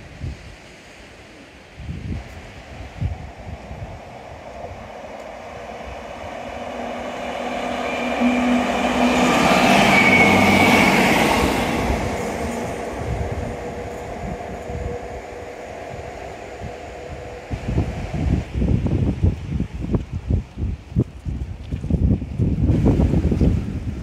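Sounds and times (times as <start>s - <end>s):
train passing: 0.6s - 19.9s.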